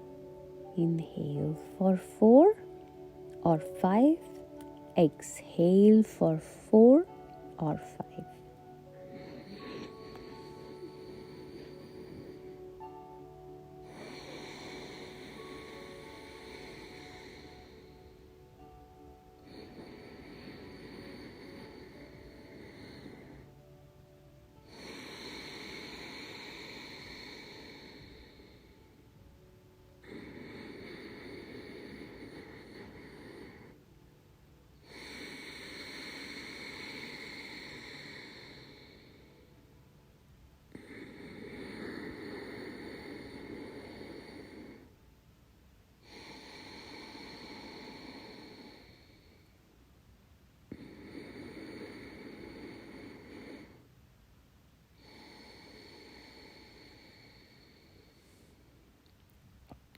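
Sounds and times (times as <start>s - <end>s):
slow hissing breaths: 0.0s - 40.0s, 40.7s - 45.1s, 45.8s - 54.1s, 54.8s - 59.1s.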